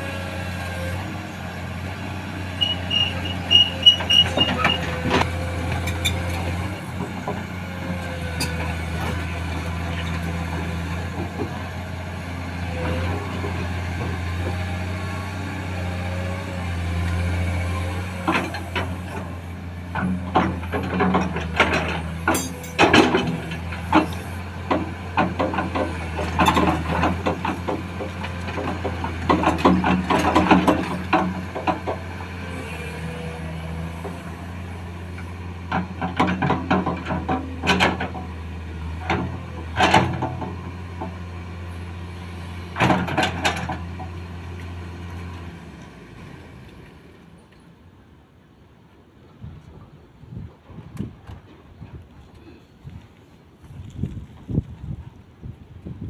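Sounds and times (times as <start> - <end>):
excavator diesel engine running: 0.0 - 48.5.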